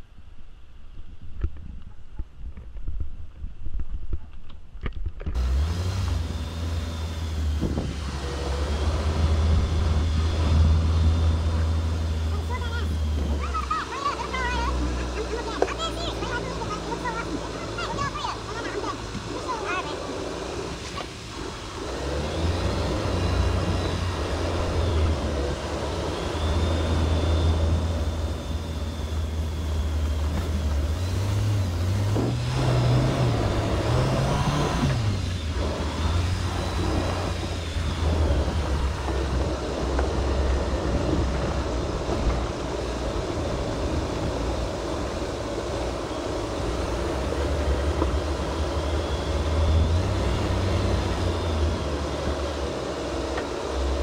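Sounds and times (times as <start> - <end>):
car engine revving: 5.4 - 54.0.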